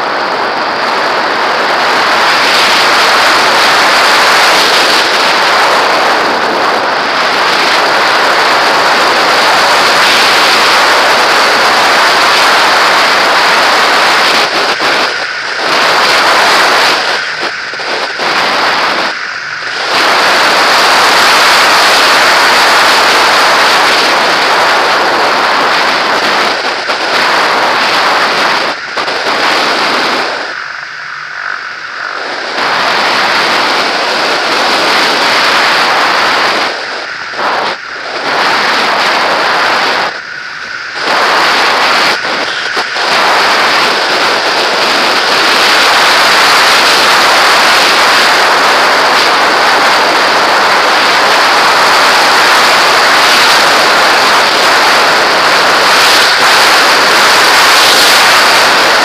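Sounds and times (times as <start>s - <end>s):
wind rushing over camera: 0.0s - 59.0s.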